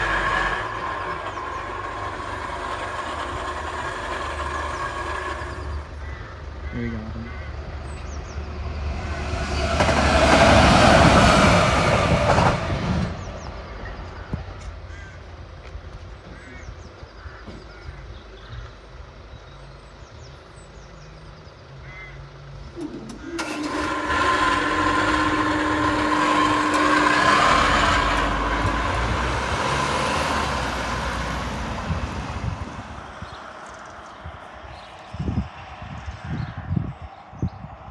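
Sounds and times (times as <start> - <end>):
diesel locomotive engine: 0.0 - 37.9
steady engine-like hum: 0.0 - 37.9.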